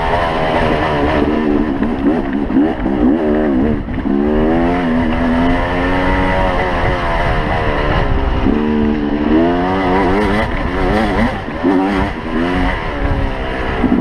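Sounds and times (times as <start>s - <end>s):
dirt bike engine revving: 0.0s - 14.0s
wind rumbling on microphone: 0.0s - 14.0s.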